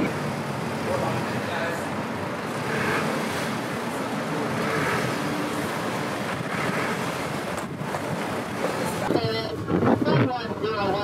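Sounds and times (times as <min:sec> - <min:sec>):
gusting blizzard wind: 0:00.0 - 0:11.0
vehicle humming: 0:00.0 - 0:11.0.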